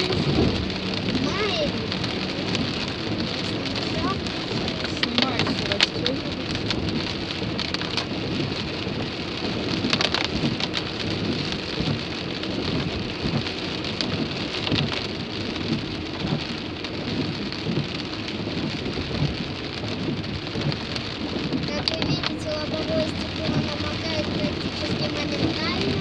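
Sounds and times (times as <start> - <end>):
heavy rain on car windshield: 0.0 - 26.0.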